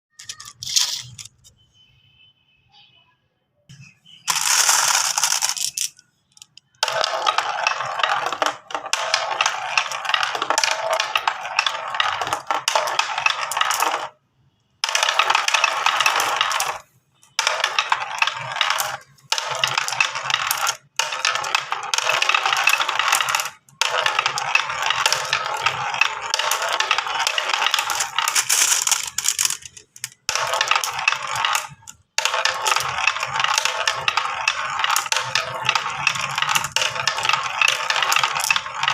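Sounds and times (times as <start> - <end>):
marbles rolling and clattering: 0.1 - 1.5, 4.2 - 38.9.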